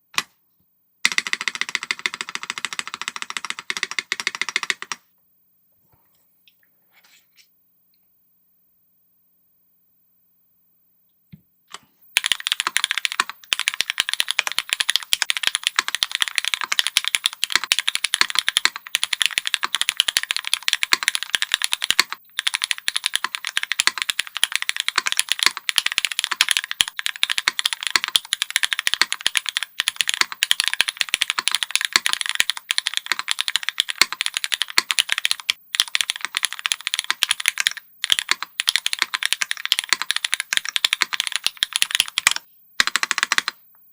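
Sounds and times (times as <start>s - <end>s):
fast typing on mechanical keyboard: 1.0s - 5.0s, 12.2s - 43.6s.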